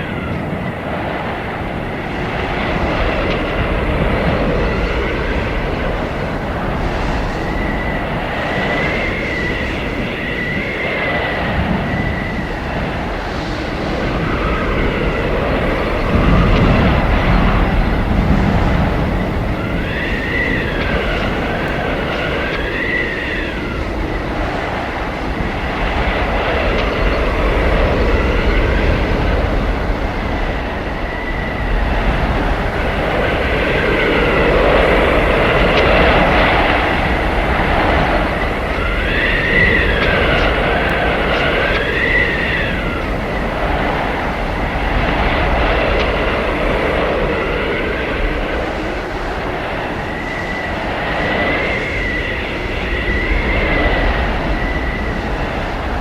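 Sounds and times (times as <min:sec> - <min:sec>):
blizzard wind rumbling: 0:00.0 - 0:56.0
high whistling wind howl: 0:00.0 - 0:56.0.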